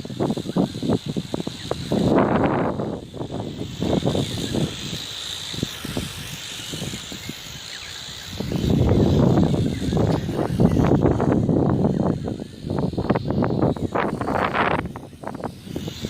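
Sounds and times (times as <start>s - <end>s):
quadcopter propellers whining: 0.0s - 16.0s
wind buffeting microphone: 0.0s - 16.0s.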